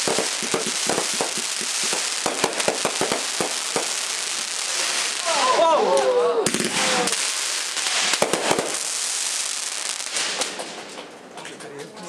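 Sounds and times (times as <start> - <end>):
fireworks crackling hiss: 0.0 - 11.2
fireworks popping and banging: 0.0 - 12.0.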